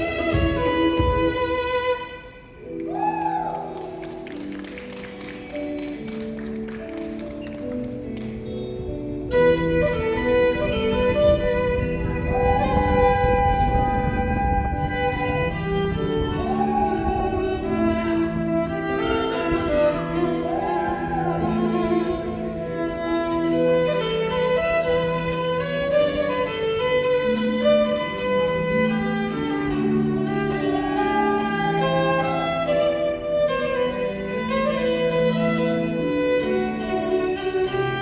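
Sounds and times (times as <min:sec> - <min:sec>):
violin slow melody: 0:00.0 - 0:04.6, 0:05.2 - 0:38.0.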